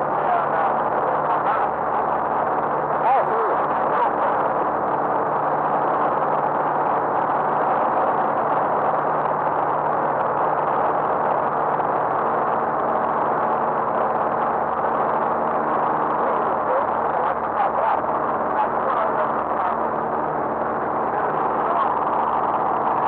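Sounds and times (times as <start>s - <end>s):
propeller aircraft engine drone: 0.0s - 23.0s
steady low hum: 0.0s - 23.0s.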